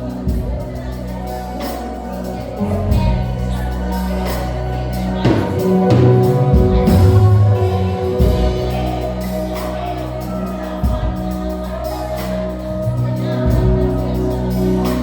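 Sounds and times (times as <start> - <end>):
bass line: 0.0 - 15.0
held keyboard chords: 0.0 - 15.0
person singing: 0.0 - 15.0.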